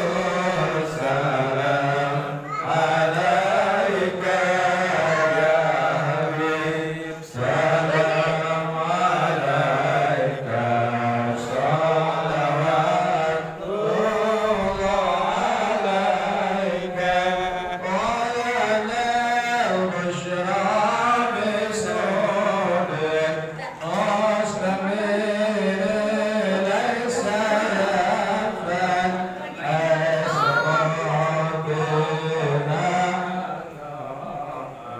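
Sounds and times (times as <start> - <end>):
voices chanting: 0.0 - 34.9.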